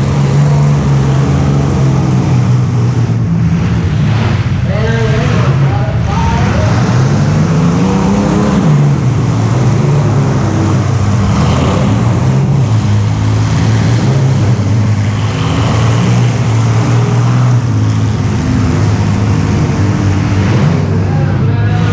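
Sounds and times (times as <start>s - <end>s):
noisy rush: 0.0s - 21.9s
vehicle engine running: 0.0s - 21.9s.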